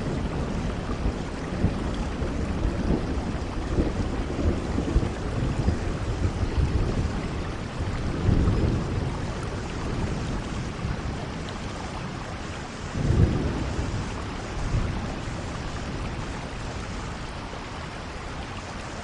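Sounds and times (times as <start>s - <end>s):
rainfall hiss: 0.0s - 19.0s.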